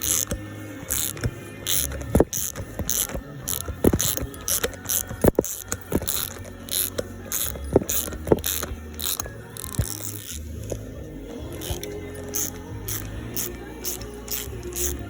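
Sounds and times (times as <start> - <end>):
ratchet wrench clicking: 0.0 - 10.4, 11.5 - 15.0.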